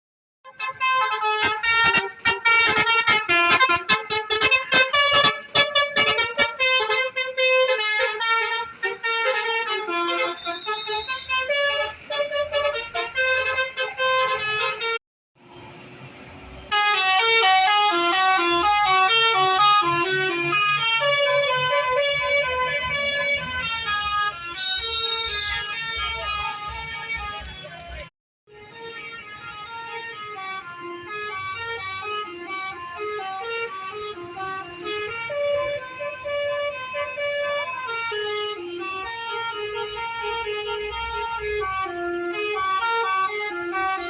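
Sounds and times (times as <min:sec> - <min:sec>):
multi-tone bus horn melody: 0:00.4 - 0:15.0, 0:16.6 - 0:44.0.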